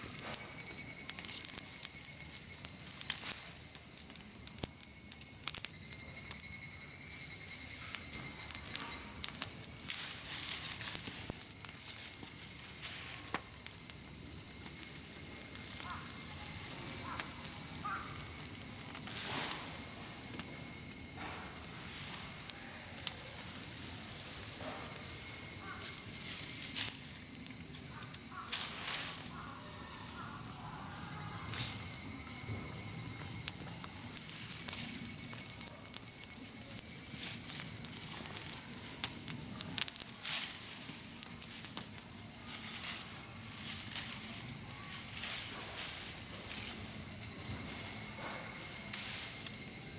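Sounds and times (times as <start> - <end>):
campfire crackling and popping: 0.0 - 30.5, 31.5 - 49.9
insects chirping: 0.0 - 49.9.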